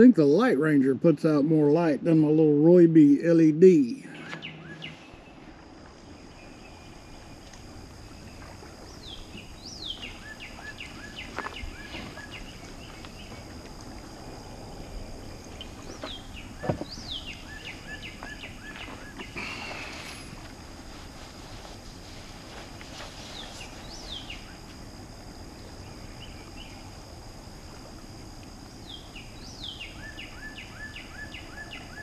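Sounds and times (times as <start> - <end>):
songbird singing: 0.0 - 20.4, 23.2 - 27.2, 28.8 - 32.0
steady outdoor hiss: 0.0 - 32.0.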